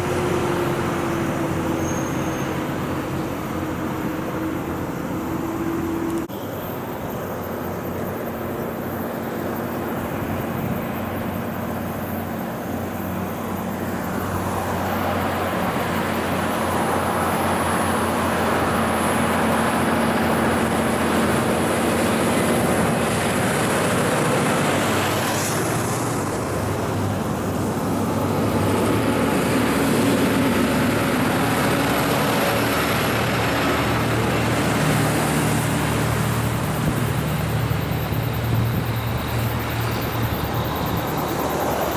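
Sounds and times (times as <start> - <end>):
truck diesel engines straining: 0.0 - 41.9
tyre and road noise: 0.0 - 41.9.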